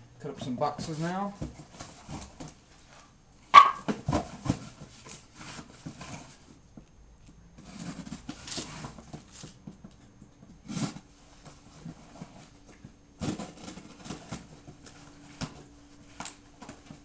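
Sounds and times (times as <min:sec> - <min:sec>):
cardboard rustling and scraping: 0:00.4 - 0:06.6, 0:07.5 - 0:17.0.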